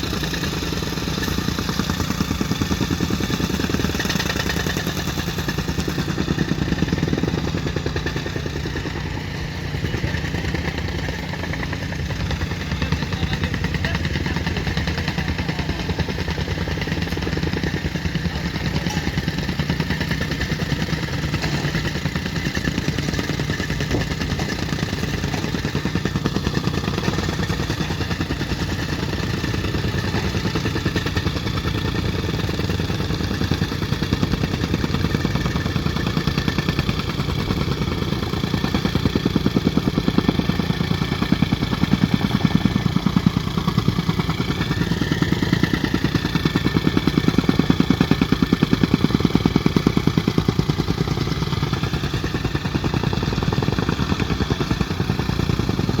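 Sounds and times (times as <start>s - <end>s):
engine running with rapid pulsing: 0.0s - 56.0s.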